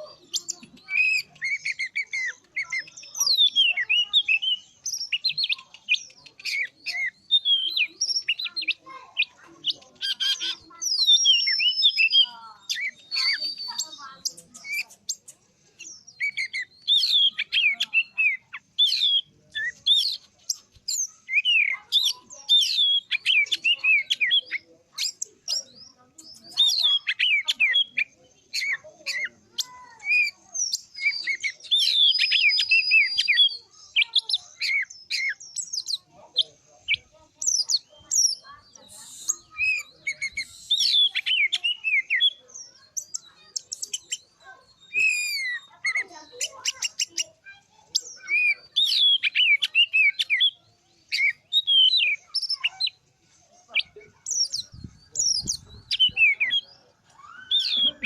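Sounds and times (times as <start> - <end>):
bird singing whistles and chatter: 0.0 - 58.0.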